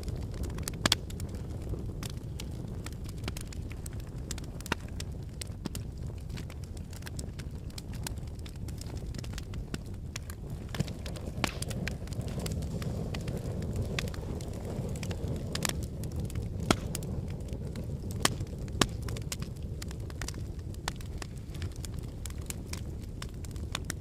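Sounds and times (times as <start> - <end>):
fire crackling and popping: 0.0 - 24.0
flames rumbling: 0.0 - 24.0.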